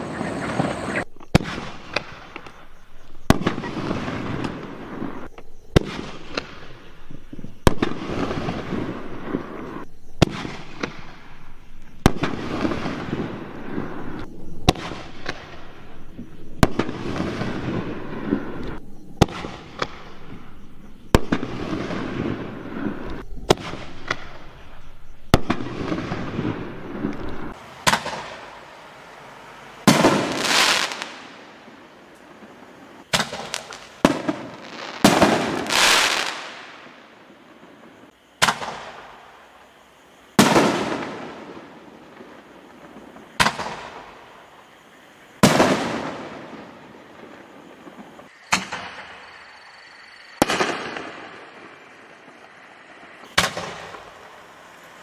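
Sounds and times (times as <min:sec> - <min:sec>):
fireworks hissing: 0:00.0 - 0:55.0
firework shells bursting: 0:00.1 - 0:39.5, 0:45.4 - 0:49.4, 0:50.1 - 0:55.0.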